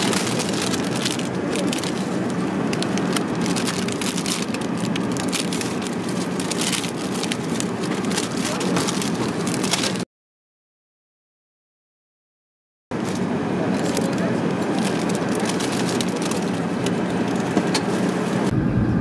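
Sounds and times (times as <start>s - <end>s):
aircraft cabin rush: 0.0s - 10.0s, 12.9s - 19.0s
plastic wrapper crinkling: 0.0s - 10.0s, 13.0s - 18.2s.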